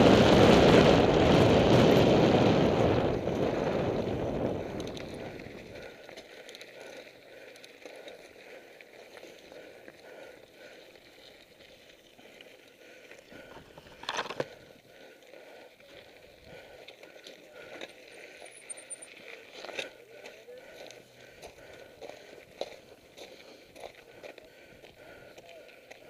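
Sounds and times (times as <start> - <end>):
bike rattling: 0.0 - 25.3
tyres crunching on gravel: 3.4 - 26.0.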